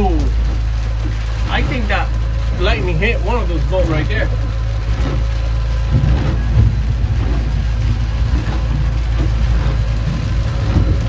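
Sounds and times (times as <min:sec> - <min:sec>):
rain beating down: 0:00.0 - 0:11.0
wind rumbling: 0:00.0 - 0:11.0.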